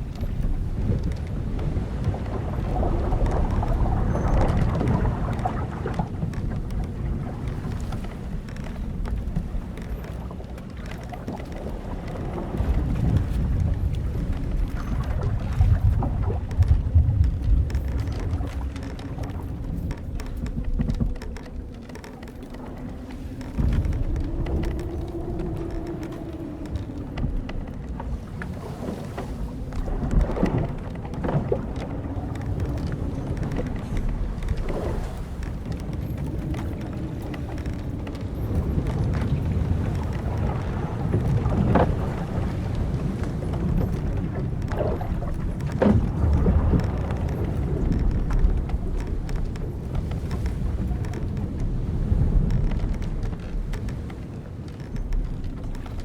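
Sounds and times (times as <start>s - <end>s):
ship timbers creaking: 0.0s - 56.0s
wavering wooden groan: 0.0s - 56.0s
wind and sea rushing: 0.0s - 56.0s.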